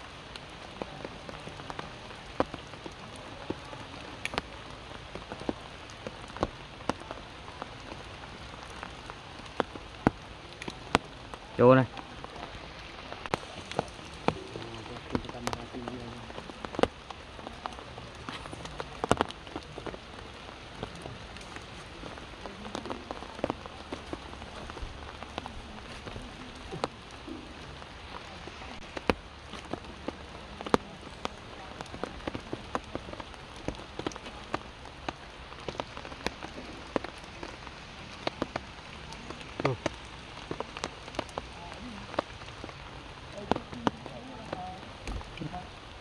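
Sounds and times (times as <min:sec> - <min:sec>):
water drops on leaves and rocks: 0:00.0 - 0:46.0.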